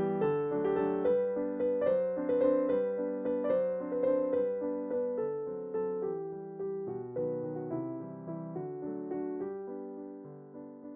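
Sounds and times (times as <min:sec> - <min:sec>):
gentle piano music: 0:00.0 - 0:10.9.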